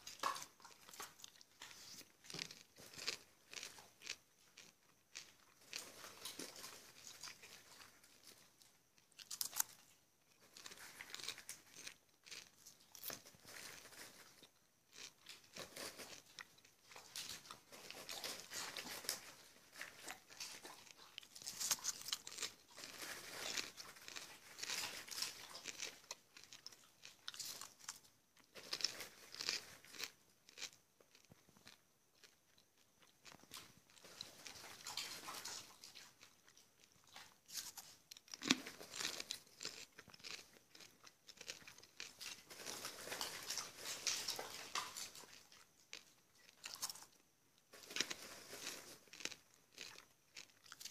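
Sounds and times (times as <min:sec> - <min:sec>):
popcorn crunching while chewed: 0:00.0 - 0:50.9.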